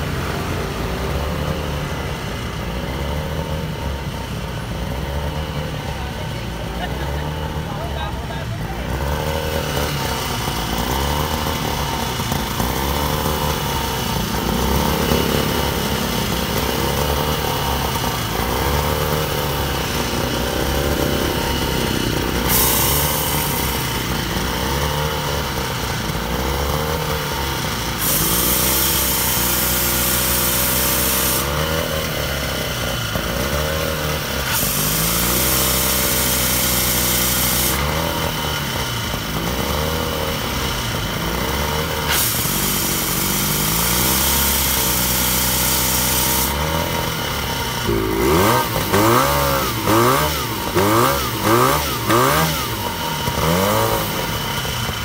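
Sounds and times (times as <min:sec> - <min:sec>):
pump engine running hard: 0:00.0 - 0:55.0
loud hissing water spray: 0:08.9 - 0:55.0.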